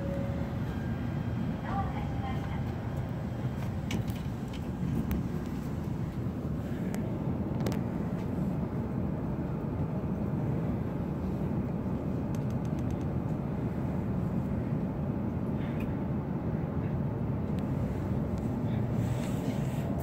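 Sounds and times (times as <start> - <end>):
train cabin rumble: 0.0 - 20.0.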